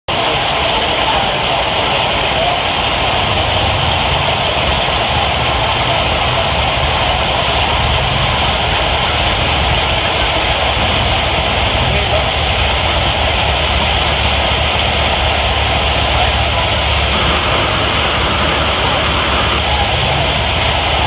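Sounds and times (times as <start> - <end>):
low rumble: 2.9 - 21.0.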